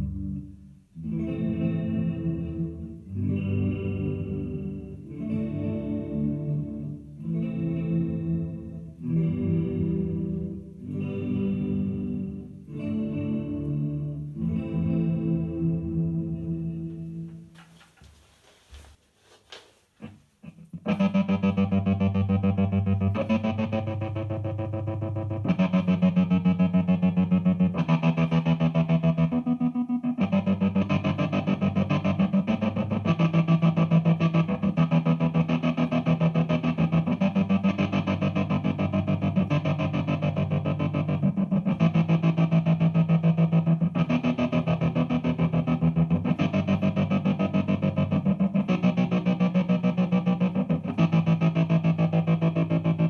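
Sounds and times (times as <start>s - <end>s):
electric guitar synth-like chords: 0.0s - 17.2s, 20.7s - 53.0s.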